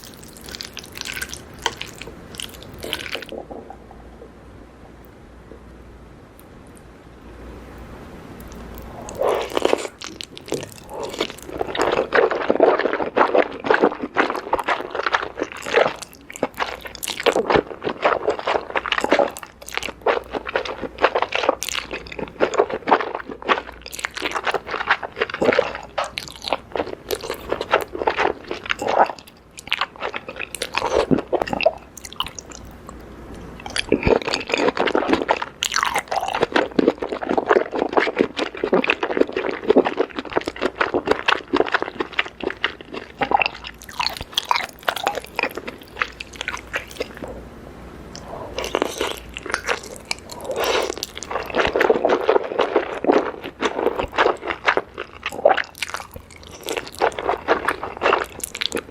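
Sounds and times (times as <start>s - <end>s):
person chewing noodles: 0.0s - 3.8s, 8.4s - 47.4s, 48.1s - 58.9s.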